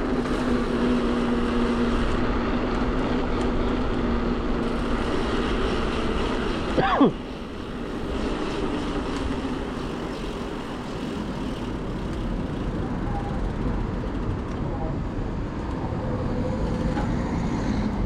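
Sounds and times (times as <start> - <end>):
road noise: 0.0 - 18.0
steady humming drone: 0.0 - 18.0.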